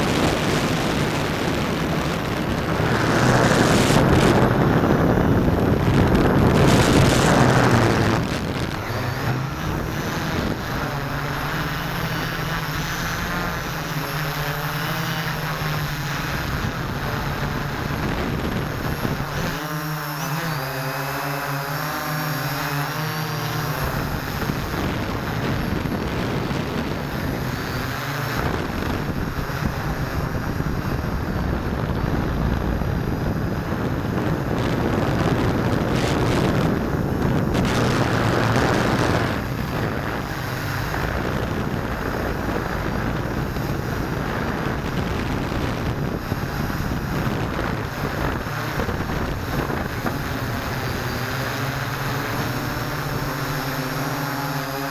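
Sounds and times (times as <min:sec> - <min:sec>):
multirotor drone buzzing: 0:00.0 - 0:54.9
wind rushing over microphone: 0:00.0 - 0:54.9.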